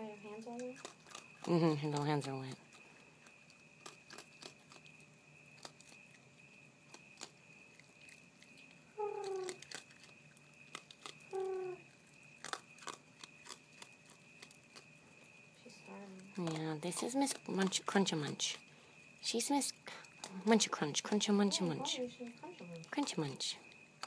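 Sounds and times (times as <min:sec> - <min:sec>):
raccoon crunching kibble: 0:00.1 - 0:24.0.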